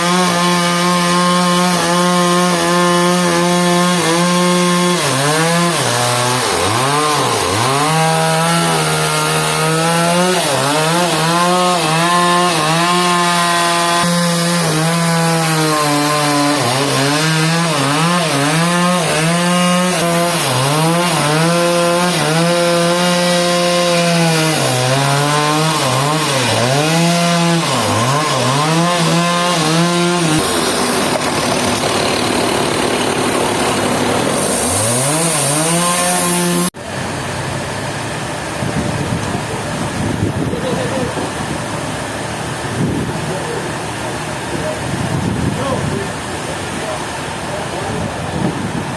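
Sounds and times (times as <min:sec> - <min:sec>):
chainsaw cutting log: 0:00.0 - 0:37.9, 0:38.5 - 0:48.9.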